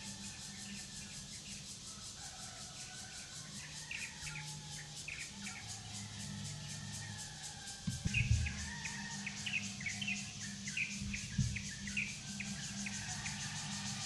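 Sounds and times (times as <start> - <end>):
birds chirping: 0.0 - 14.0
pulsing insect chorus: 0.0 - 14.0.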